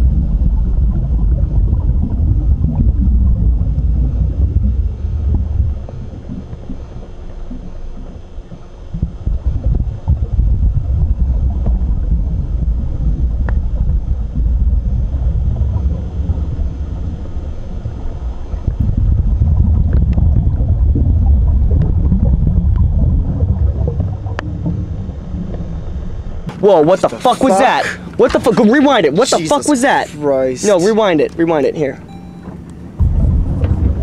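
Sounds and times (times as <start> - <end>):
wind rumble: 0.0 - 26.5, 32.6 - 34.0
water noise aboard boat: 0.0 - 34.0.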